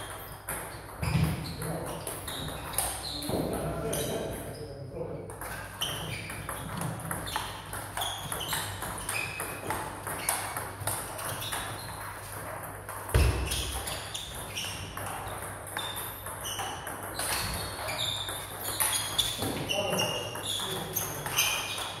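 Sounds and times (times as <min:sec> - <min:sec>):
table tennis balls ticking: 0:00.0 - 0:04.5, 0:05.3 - 0:22.0.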